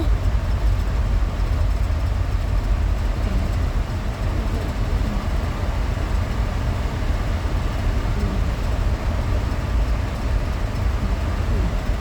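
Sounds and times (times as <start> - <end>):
minivan engine and road noise: 0.0 - 12.0.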